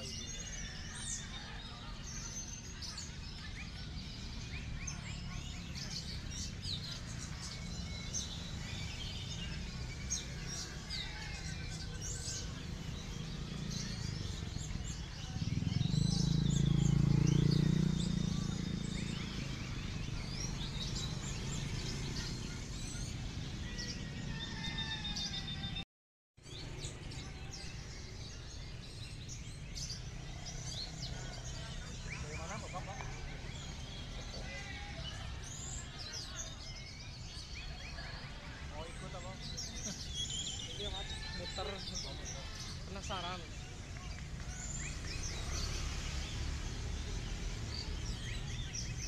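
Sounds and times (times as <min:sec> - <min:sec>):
songbirds chirping and trilling: 0:00.0 - 0:25.8, 0:26.4 - 0:49.0.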